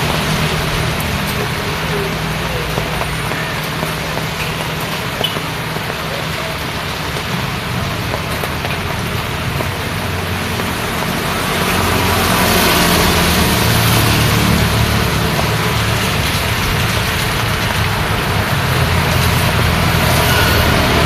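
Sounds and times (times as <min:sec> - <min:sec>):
rain hiss: 0:00.0 - 0:21.0
tyres on wet road: 0:00.0 - 0:21.0
vehicle engines humming: 0:00.0 - 0:21.0.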